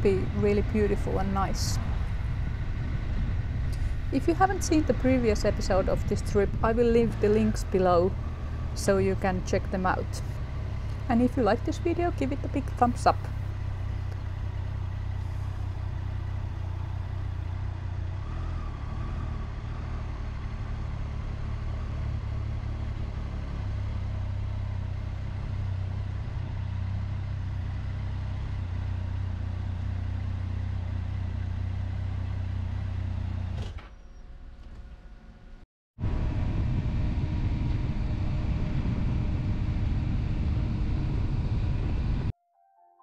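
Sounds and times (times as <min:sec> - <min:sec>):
motorcycle engine droning: 0:00.0 - 0:42.3.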